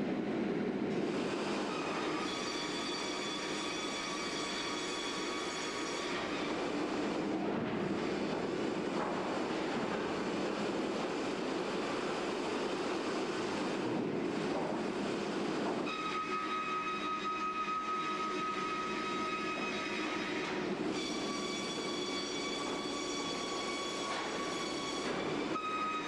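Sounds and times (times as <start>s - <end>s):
rough machine noise: 0.9s - 26.0s
sawmill high whine: 0.9s - 26.0s.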